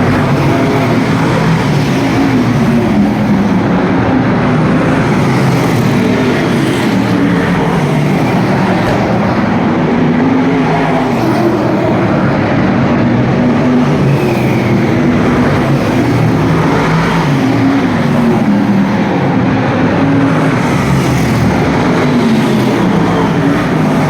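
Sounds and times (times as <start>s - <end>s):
race car engines racing: 0.0s - 24.0s.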